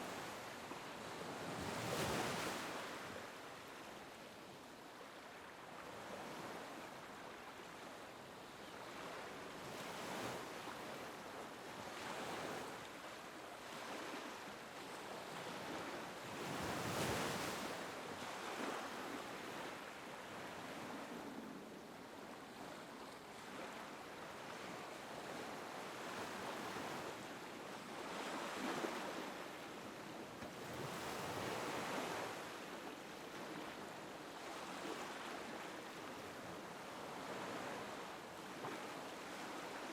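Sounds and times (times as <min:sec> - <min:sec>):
small waves lapping on beach: 0:00.0 - 0:39.9.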